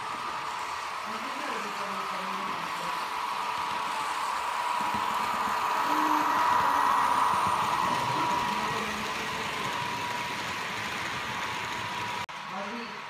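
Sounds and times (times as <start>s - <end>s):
model train motor whine: 0.0s - 13.0s.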